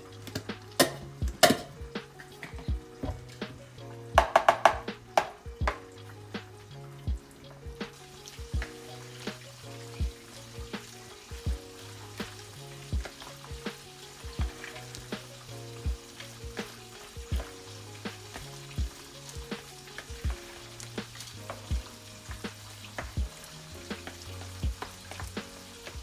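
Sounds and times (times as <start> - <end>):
chicken sizzling in hot oil: 0.0 - 26.0
music with thumping beat: 0.2 - 26.0.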